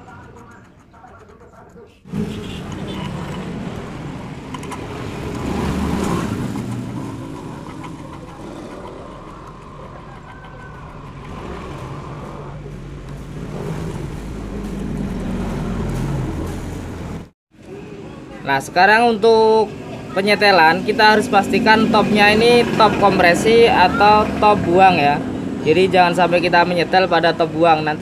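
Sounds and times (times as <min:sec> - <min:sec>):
vehicle engine running: 0:00.0 - 0:18.4, 0:20.8 - 0:28.0.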